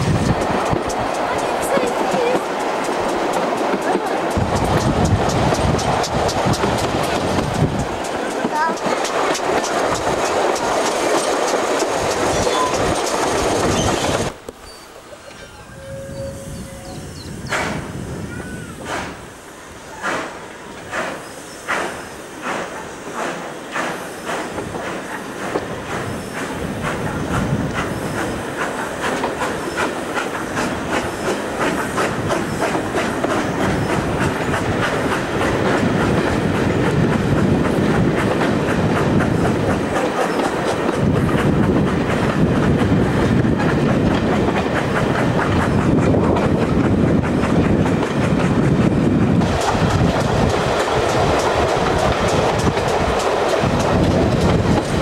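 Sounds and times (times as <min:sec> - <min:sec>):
train wheels clicking over rail joints: 0:00.0 - 0:14.6, 0:17.2 - 0:55.0.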